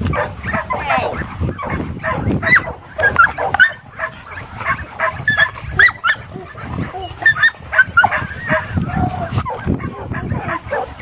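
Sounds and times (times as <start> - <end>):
puppies yipping and barking: 0.0 - 11.0.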